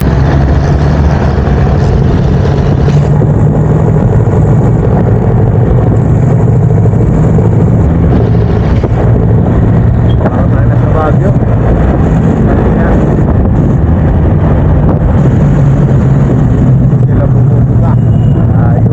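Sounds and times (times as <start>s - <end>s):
traffic engines droning: 0.0s - 18.9s.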